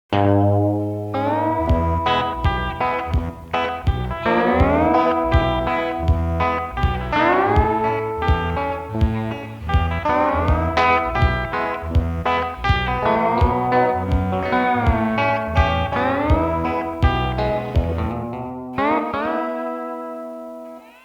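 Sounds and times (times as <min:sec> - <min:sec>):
slide guitar: 0:00.1 - 0:21.0
bass and drum beat: 0:01.1 - 0:18.3.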